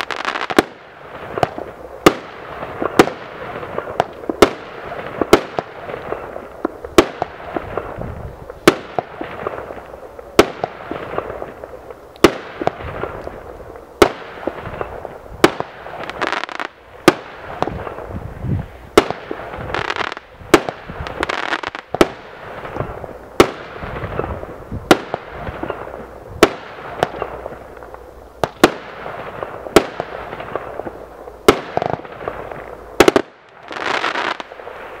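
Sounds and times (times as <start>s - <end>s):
firework bangs: 0.0s - 27.8s, 28.4s - 35.0s
crackle of firework stars: 0.0s - 35.0s.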